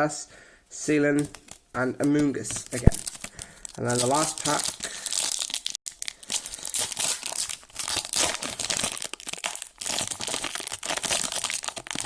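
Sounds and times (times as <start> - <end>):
plastic wrapper crinkling: 1.2 - 12.0.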